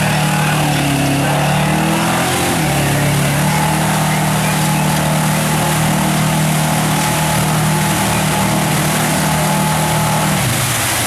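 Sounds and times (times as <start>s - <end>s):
suv engine at high revs: 0.0s - 11.0s.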